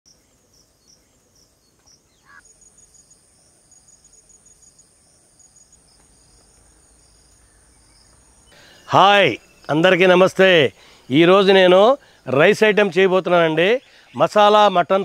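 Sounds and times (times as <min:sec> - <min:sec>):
faint insect chirping: 0:00.1 - 0:15.0.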